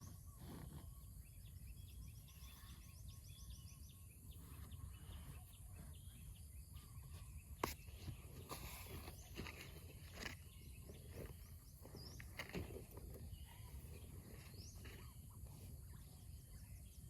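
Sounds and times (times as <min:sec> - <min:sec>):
low rumble of wind: 0:00.0 - 0:17.0
small birds chirping: 0:00.0 - 0:17.0.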